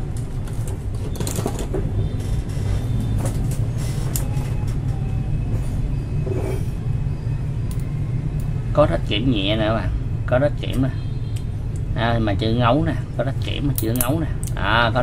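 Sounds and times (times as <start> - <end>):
steady low hum: 1.9 - 15.0.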